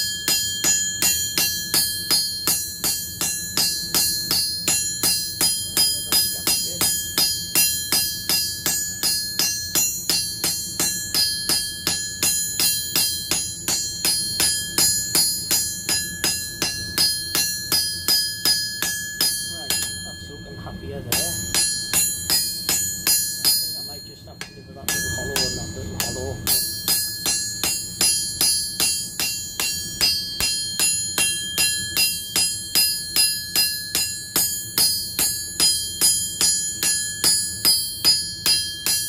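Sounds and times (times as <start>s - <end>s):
hammer striking steel on anvil: 0.0s - 39.0s.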